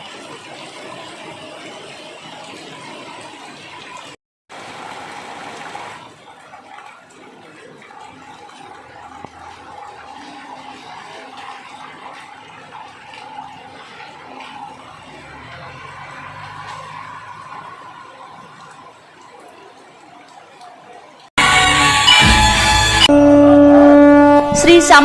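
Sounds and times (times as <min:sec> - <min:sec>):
rain falling: 0:00.0 - 0:23.1.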